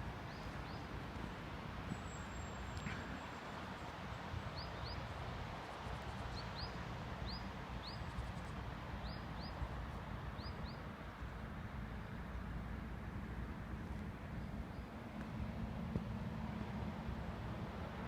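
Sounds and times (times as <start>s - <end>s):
highway traffic rumble: 0.0s - 18.0s.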